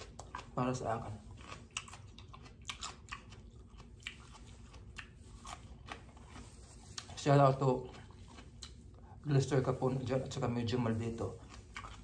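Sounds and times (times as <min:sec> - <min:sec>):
person chewing crunchy fruit: 0:00.0 - 0:12.0.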